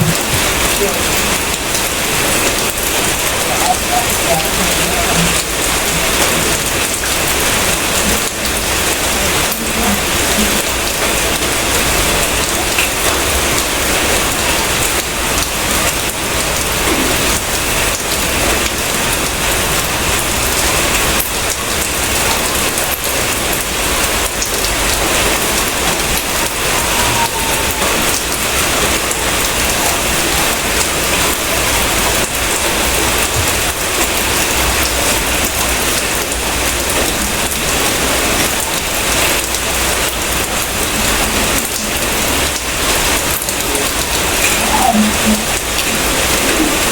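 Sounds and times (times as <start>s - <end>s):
raindrops ticking: 0.0s - 46.9s
steady rain hiss: 0.0s - 46.9s.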